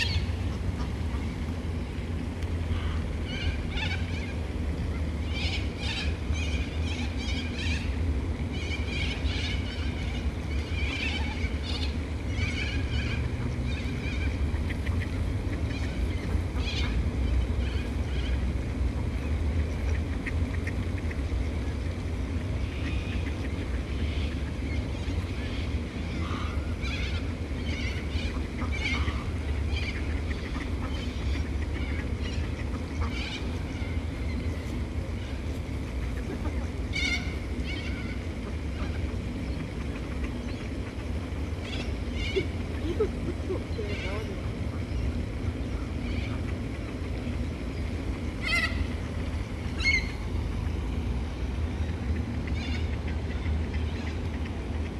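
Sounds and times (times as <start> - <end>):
waterbirds calling: 0.0 - 54.9.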